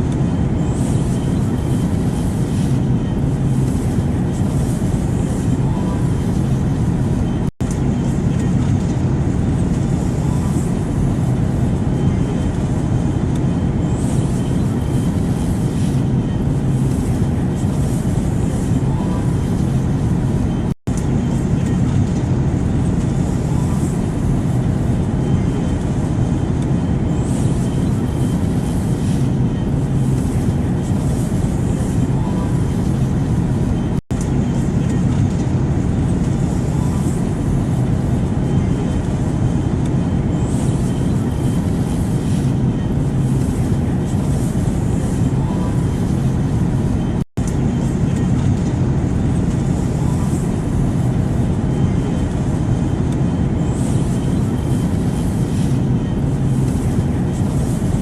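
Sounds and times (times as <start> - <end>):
airplane drone: 0.0 - 58.0.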